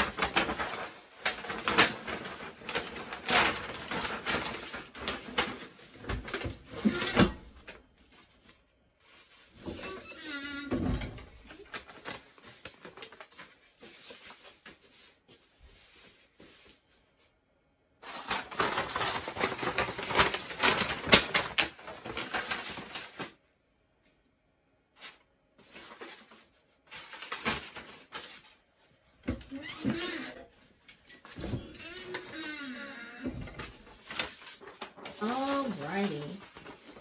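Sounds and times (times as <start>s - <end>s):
paper rustling and crinkling: 0.0s - 17.3s, 18.0s - 23.5s, 25.0s - 37.0s.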